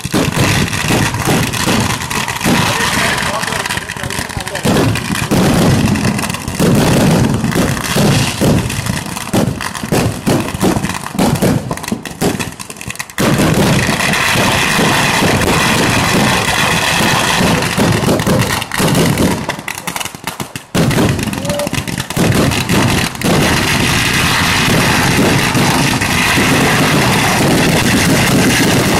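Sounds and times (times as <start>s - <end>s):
firecracker barrage: 0.0s - 28.9s.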